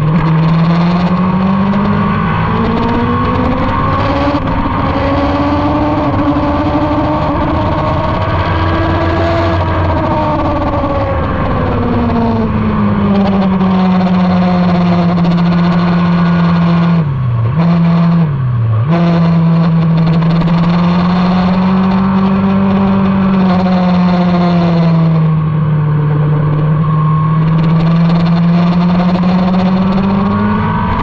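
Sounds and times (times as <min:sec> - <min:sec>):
motorcycle engine revving high: 0:00.0 - 0:31.0.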